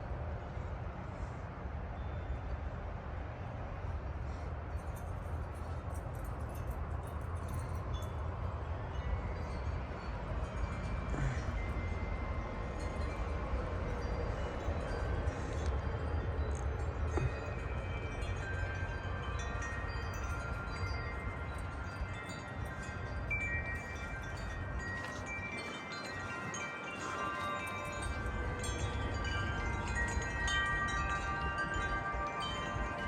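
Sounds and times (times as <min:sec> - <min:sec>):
wind rumble on microphone: 0:00.0 - 0:33.0
wind chimes ringing: 0:04.3 - 0:33.0.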